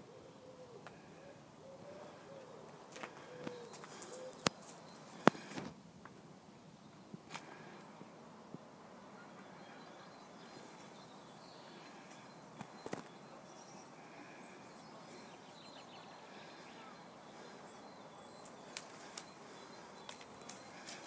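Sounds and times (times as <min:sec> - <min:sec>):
faint bird chirps: 0:00.0 - 0:05.6, 0:09.0 - 0:21.0
faint outdoor hiss: 0:00.0 - 0:21.0.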